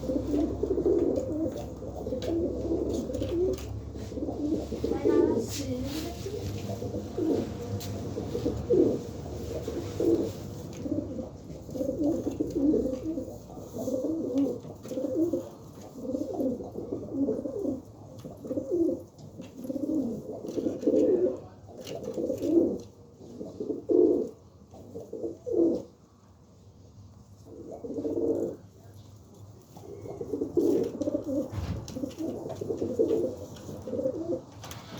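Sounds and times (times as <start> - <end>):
pigeons cooing: 0.0 - 26.0, 27.4 - 28.7, 29.7 - 34.9.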